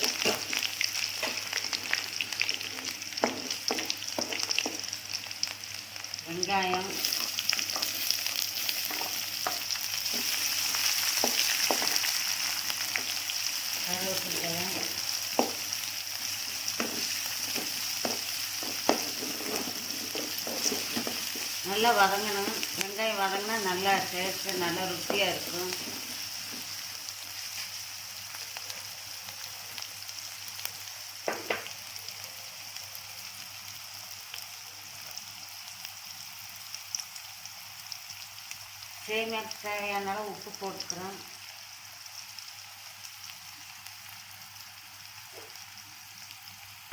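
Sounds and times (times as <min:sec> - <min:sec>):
onion sizzling in hot oil: 0:00.0 - 0:46.9.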